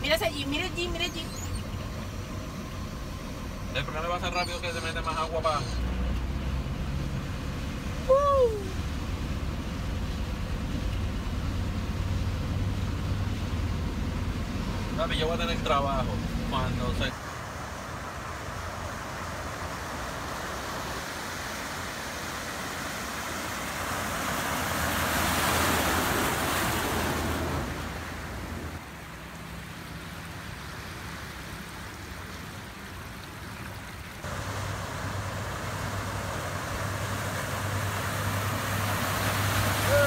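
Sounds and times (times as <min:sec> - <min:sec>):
low engine hum: 0:00.0 - 0:40.0
water rushing from vehicle: 0:00.0 - 0:40.0.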